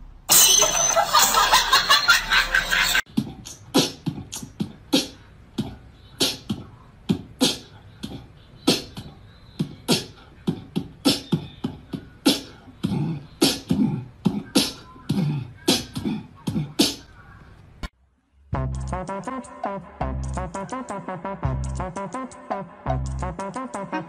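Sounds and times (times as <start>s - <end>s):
beatbox mouth percussion: 3.0s - 17.1s, 18.6s - 24.0s.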